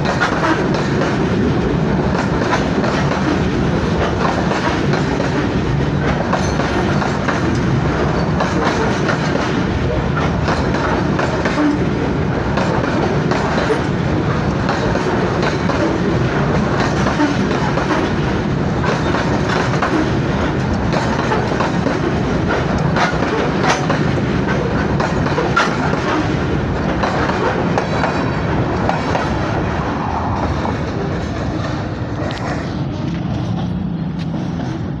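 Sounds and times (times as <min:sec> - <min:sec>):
clickety-clack over rail joints: 0:00.0 - 0:35.0
train wheels rumbling on rails: 0:00.0 - 0:35.0.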